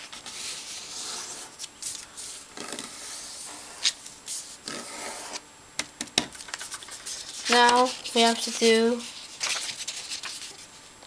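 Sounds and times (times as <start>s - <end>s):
paper rustling and sliding on table: 0.0s - 5.4s, 6.5s - 10.7s.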